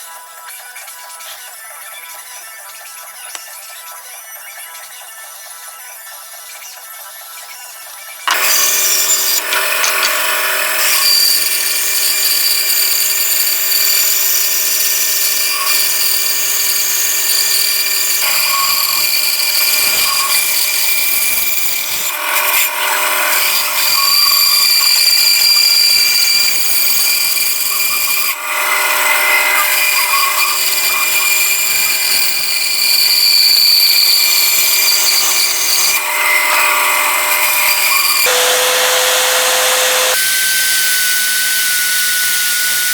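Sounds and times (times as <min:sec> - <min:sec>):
grinder grinding steel: 0:08.2 - 0:42.9
power tool motor hum: 0:08.3 - 0:42.9.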